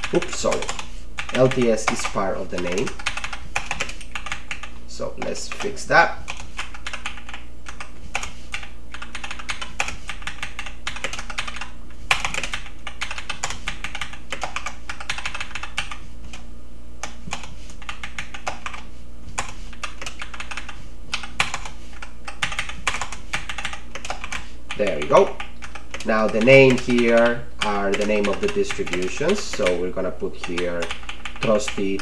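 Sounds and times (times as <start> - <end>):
faint steady hum: 0.0 - 32.0
keyboard typing: 0.0 - 32.0.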